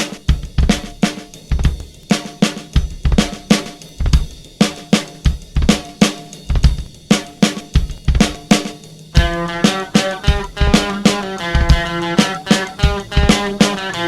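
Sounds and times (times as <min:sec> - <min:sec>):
drum kit playing a groove: 0:00.0 - 0:14.0.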